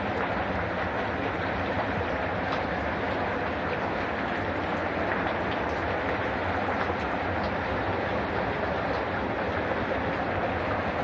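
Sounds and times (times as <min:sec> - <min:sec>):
rain falling into a pond: 0:00.0 - 0:11.0.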